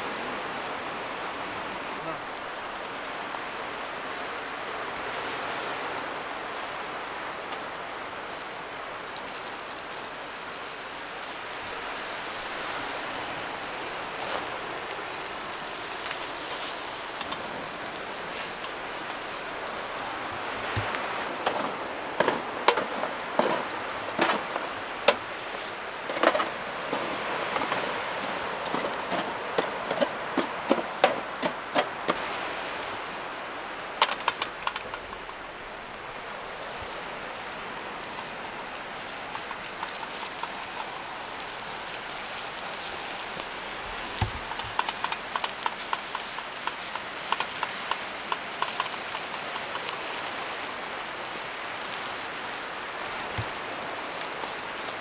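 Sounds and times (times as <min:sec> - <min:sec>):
grill sizzling: 0:02.0 - 0:32.1, 0:34.0 - 0:55.0
fat crackling and popping on coals: 0:02.0 - 0:33.0, 0:33.9 - 0:55.0.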